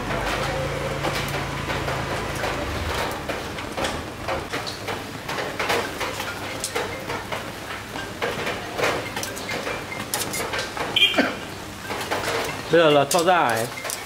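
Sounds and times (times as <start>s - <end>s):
meat crackling over charcoal: 0.0s - 14.0s.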